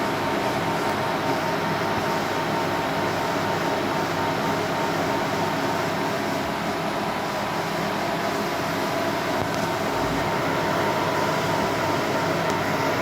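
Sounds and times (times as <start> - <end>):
cooling fans whirring: 0.0 - 13.0.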